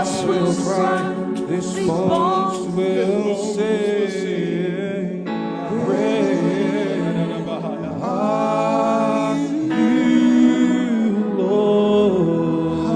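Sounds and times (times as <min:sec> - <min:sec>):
held chords: 0:00.0 - 0:12.7
voices singing worship music: 0:00.0 - 0:12.9.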